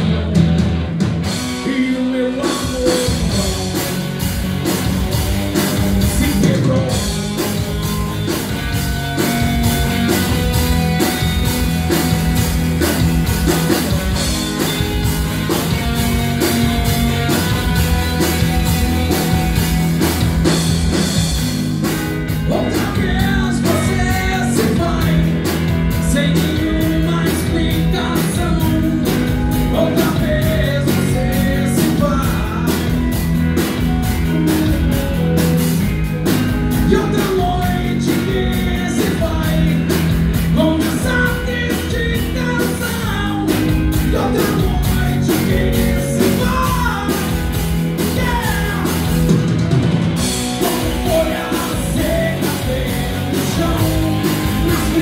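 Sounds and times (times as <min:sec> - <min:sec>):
lead singer: 0:00.0 - 0:55.0
rock band playing: 0:00.0 - 0:55.0.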